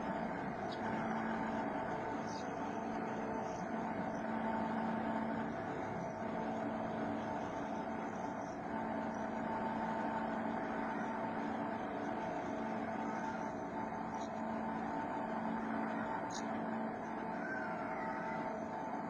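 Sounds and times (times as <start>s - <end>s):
cnc machine humming and whining: 0.0s - 19.0s.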